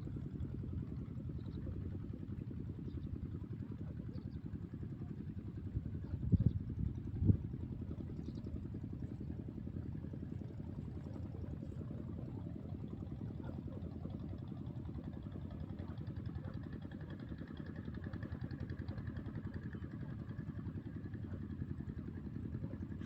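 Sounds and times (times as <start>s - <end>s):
engine idling: 0.1s - 23.0s.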